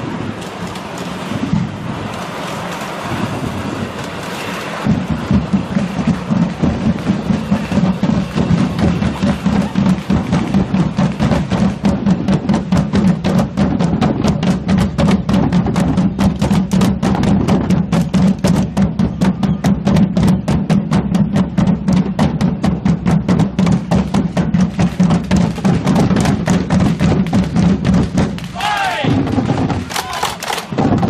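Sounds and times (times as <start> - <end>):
marching drum band playing: 4.8 - 31.0.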